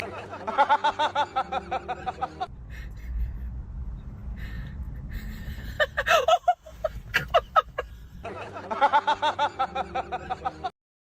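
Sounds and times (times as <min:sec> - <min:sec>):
person laughing: 0:00.0 - 0:03.6, 0:05.0 - 0:10.7.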